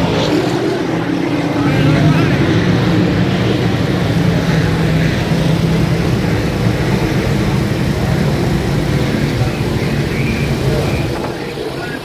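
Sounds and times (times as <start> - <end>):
loud steady engine drone: 0.0 - 12.0.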